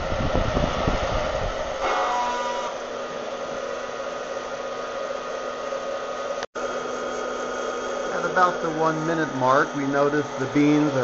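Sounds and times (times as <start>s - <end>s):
hot-air popper fan blowing: 0.0s - 11.0s.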